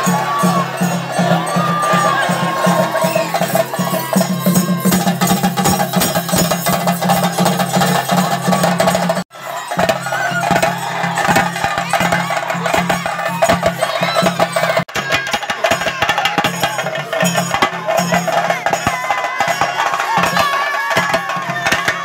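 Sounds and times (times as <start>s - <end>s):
drums beaten with sticks: 0.0s - 22.0s.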